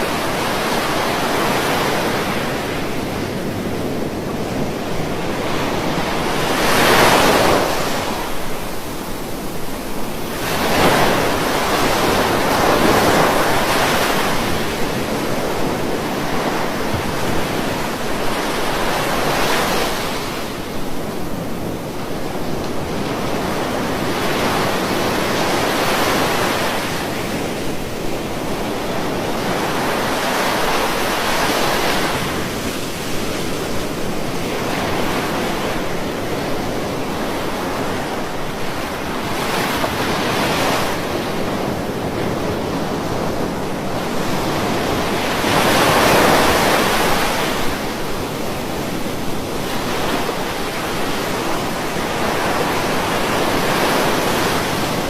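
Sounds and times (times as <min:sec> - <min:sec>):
ocean waves breaking on a beach: 0:00.0 - 0:55.0.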